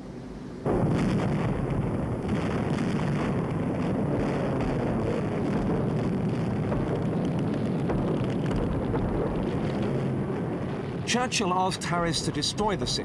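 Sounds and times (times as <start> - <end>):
heavy rumble: 0.0 - 13.0
faint crackles: 0.8 - 13.0.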